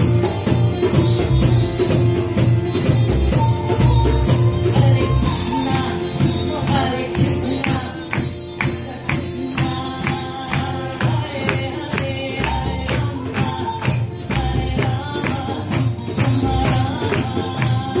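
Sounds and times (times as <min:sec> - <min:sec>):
hand percussion steady beat: 0:00.0 - 0:18.0
sitar: 0:00.0 - 0:18.0
voices singing: 0:00.0 - 0:18.0.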